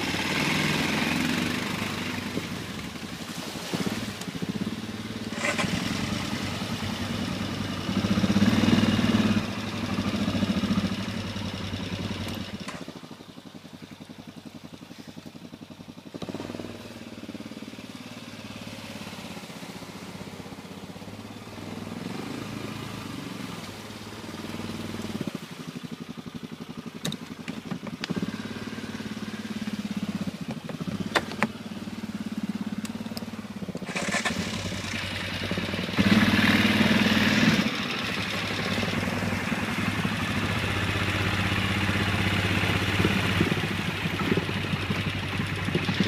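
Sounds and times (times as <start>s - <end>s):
quad bike engine running: 0.0s - 46.0s
water splashing and churning: 0.0s - 46.0s.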